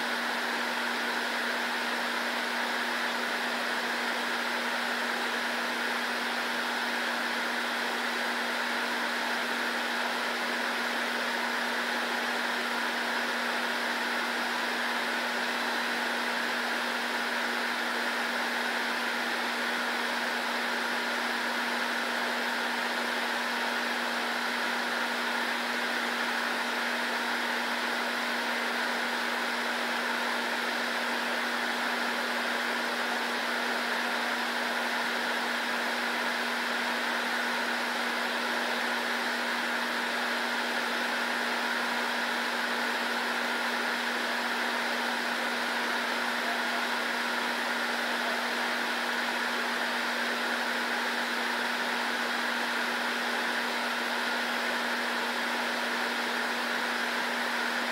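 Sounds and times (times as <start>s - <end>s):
air handling fan whir: 0.0s - 57.9s.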